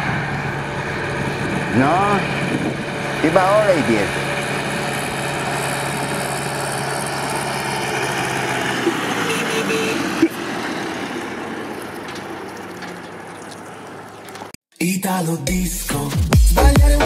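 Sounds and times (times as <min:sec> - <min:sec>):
tractor diesel engine running: 0:00.0 - 0:14.6.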